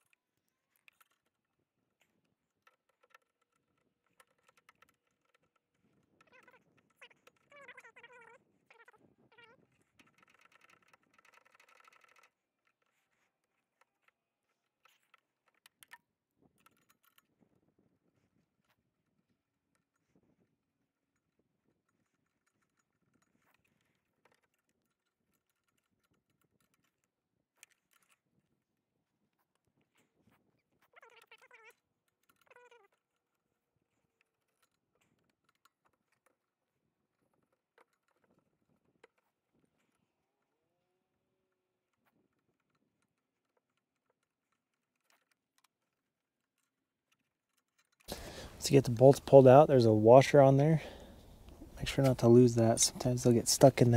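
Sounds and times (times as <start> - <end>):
small clicks of handling parts: 0.0 - 40.6, 41.4 - 49.6.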